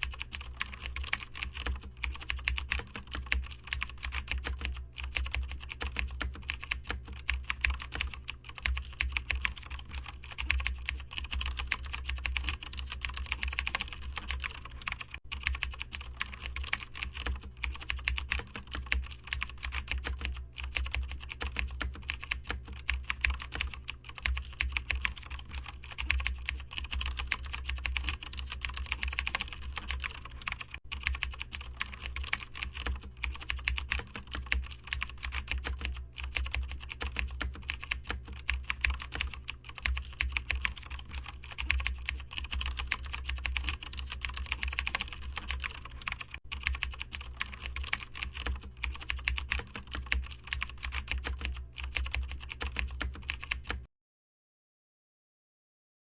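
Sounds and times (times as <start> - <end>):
low steady hum: 0.0 - 53.8
rapid keyboard typing: 0.0 - 53.9.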